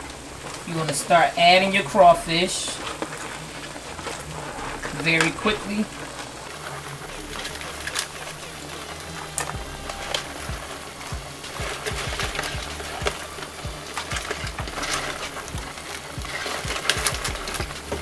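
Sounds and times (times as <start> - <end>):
background music: 0.0 - 18.0
scattered clicks: 2.0 - 18.0.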